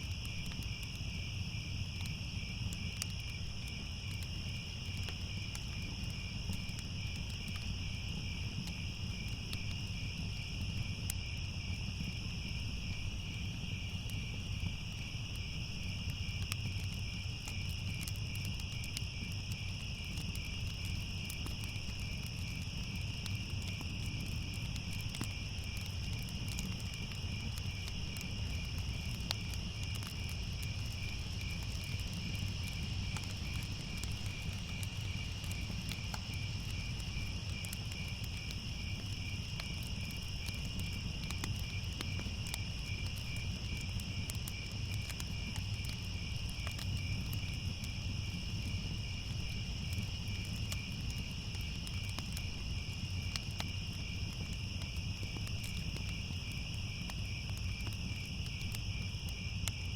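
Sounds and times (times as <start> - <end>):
crickets trilling: 0.0 - 59.9
fire crackling: 0.0 - 59.9.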